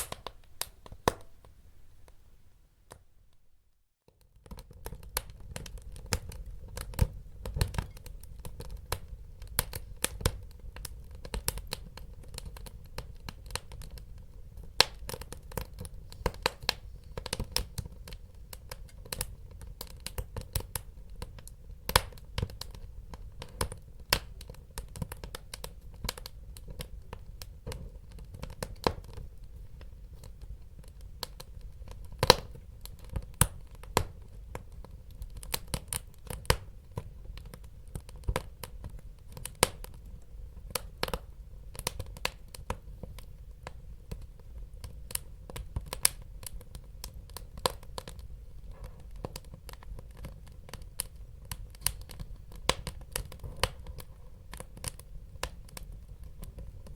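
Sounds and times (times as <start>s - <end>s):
wood fire crackling: 0.0s - 3.5s, 4.1s - 56.9s
low fire rumble: 4.4s - 56.9s.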